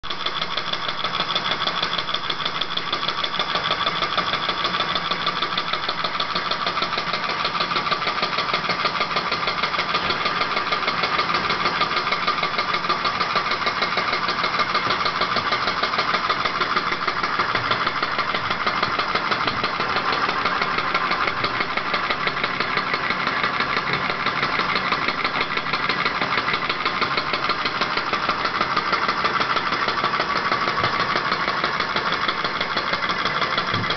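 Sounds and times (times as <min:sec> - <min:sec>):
model engines clattering: 0:00.0 - 0:33.9.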